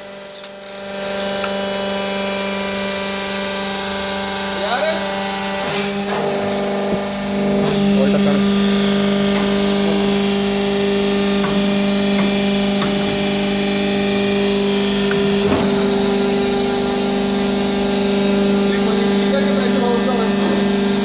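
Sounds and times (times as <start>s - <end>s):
hydraulic power pack humming: 0.0s - 21.0s.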